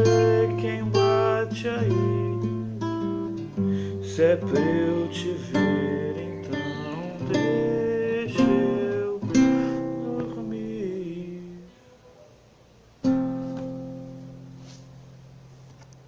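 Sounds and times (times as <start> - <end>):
acoustic guitar chords: 0.0 - 11.8, 13.0 - 15.4.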